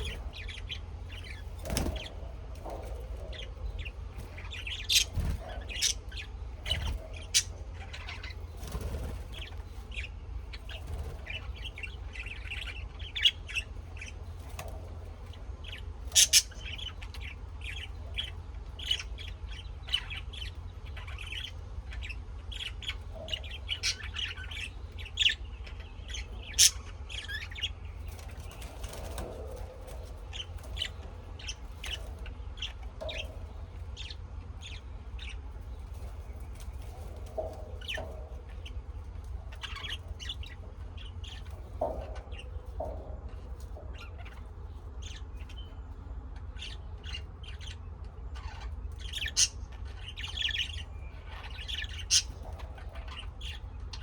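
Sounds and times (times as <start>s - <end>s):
birds chirping and squawking: 0.0s - 54.0s
steady low hum: 0.0s - 54.0s.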